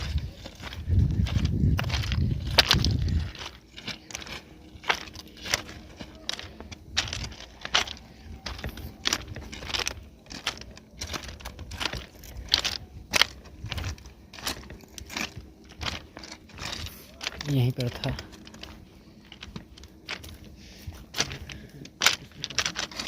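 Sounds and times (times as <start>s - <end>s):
footsteps walking slowly: 0.0s - 23.0s.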